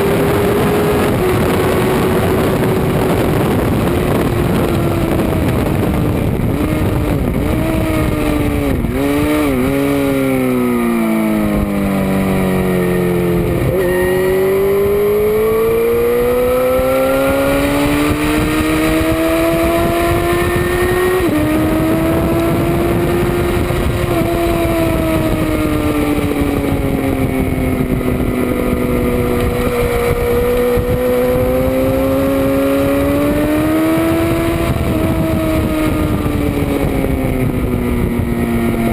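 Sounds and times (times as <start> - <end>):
car engine revving: 0.0 - 38.9
wind rush over microphone: 0.0 - 38.9.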